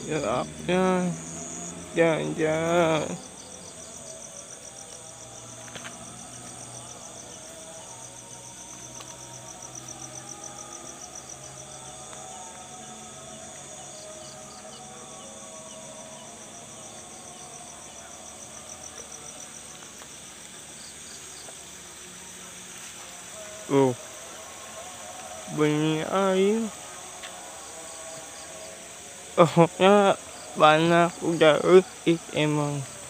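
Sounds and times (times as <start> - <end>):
thin insect whine: 0.0 - 33.0.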